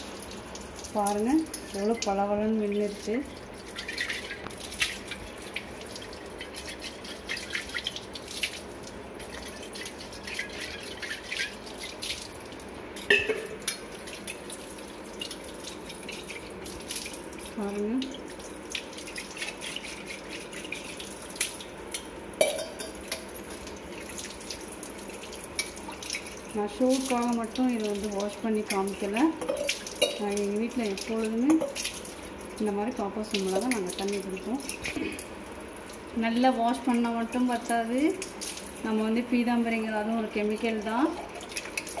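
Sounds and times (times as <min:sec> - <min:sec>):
tap water running onto metal pot: 0:00.0 - 0:42.0
water splashing and dripping: 0:00.0 - 0:42.0.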